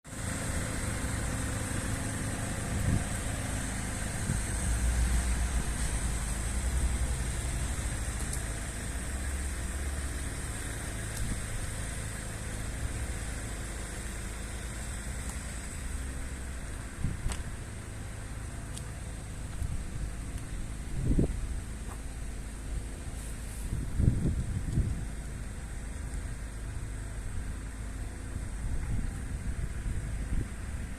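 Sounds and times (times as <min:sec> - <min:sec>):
engine low rumble: 0:00.0 - 0:30.9.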